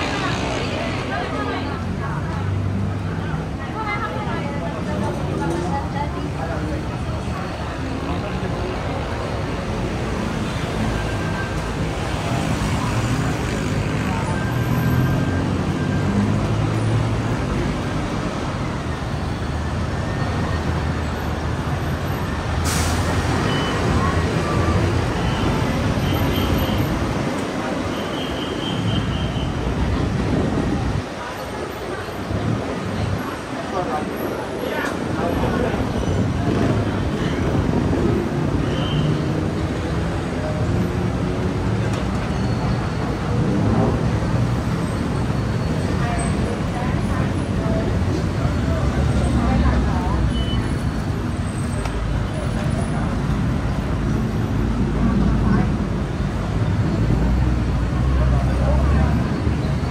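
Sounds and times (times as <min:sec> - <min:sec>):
passing vehicle engines: 0:00.0 - 0:59.9
people's voices: 0:00.0 - 0:59.9
traffic rumbling past: 0:00.0 - 0:59.9.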